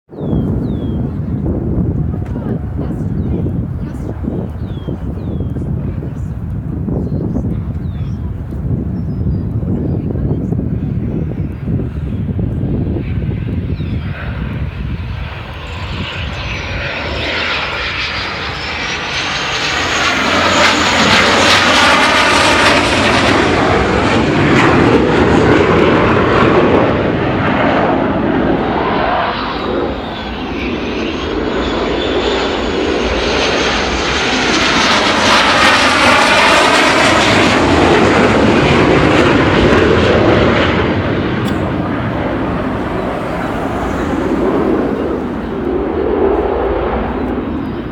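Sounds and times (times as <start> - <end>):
jet engines whining: 0.2 - 47.9.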